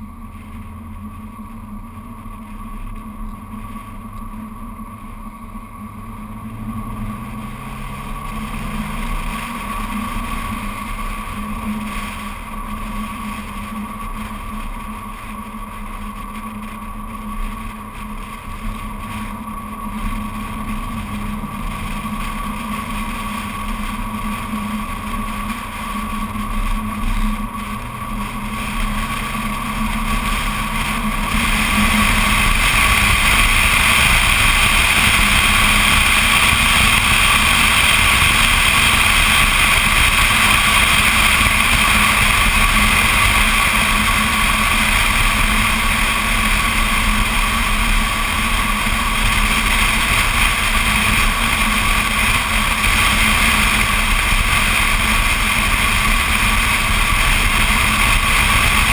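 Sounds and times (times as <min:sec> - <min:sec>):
car engine accelerating: 0:00.0 - 0:58.9
wind and tyre noise: 0:00.0 - 0:58.9.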